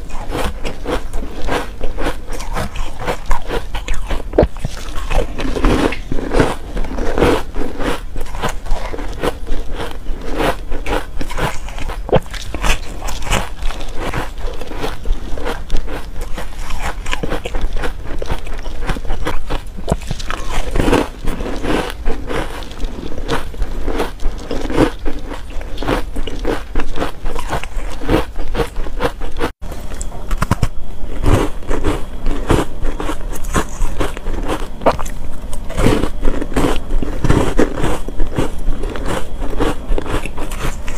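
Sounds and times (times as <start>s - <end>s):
crunching ice cubes: 0.0s - 40.9s.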